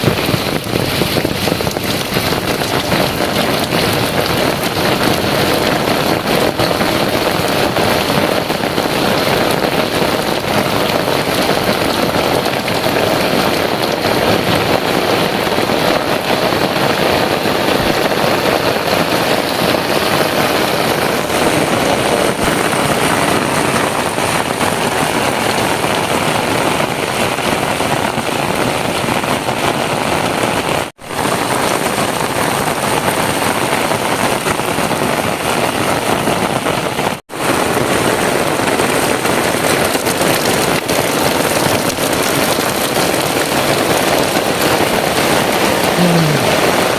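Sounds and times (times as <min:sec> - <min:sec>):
heavy rain hiss: 0:00.0 - 0:46.9.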